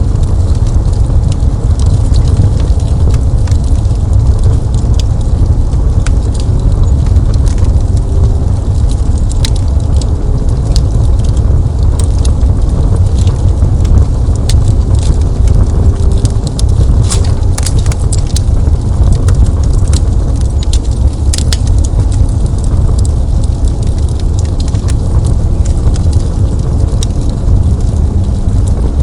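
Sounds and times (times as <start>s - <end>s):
fire crackling and popping: 0.0s - 29.0s
fire rumbling: 0.0s - 29.0s.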